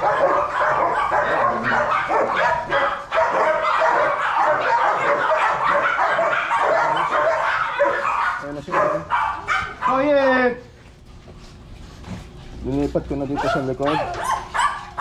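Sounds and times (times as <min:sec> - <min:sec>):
dogs barking and yipping: 0:00.0 - 0:10.6, 0:13.1 - 0:15.0.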